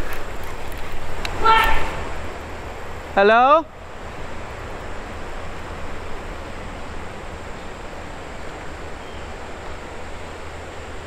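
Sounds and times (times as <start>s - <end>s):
flowing river water: 0.0s - 11.0s.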